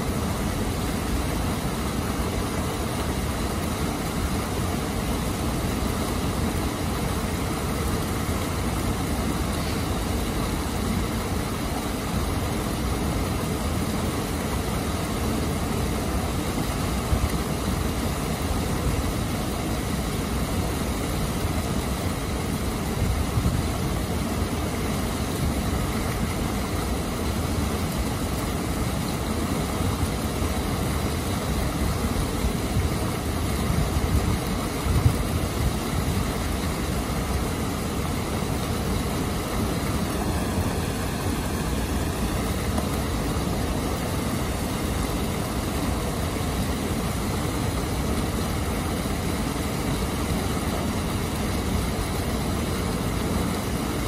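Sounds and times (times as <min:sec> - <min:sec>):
water rushing over waterfall: 0:00.0 - 0:54.0.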